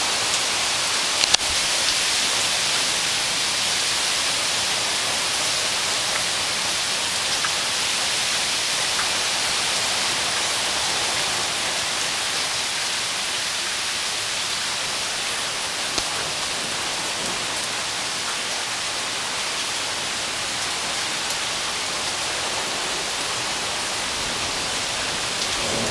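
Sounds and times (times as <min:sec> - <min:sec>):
steady rain: 0:00.0 - 0:25.9.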